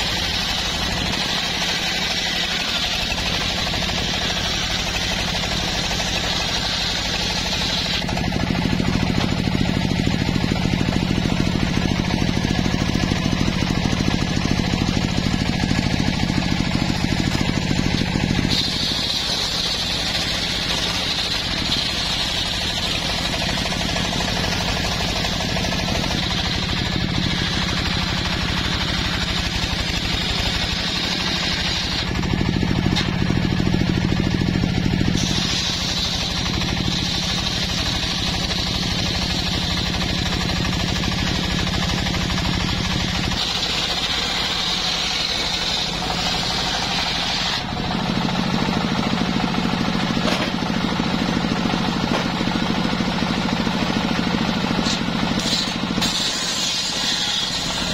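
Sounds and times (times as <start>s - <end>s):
circular sawmill cutting log: 0.0s - 57.9s.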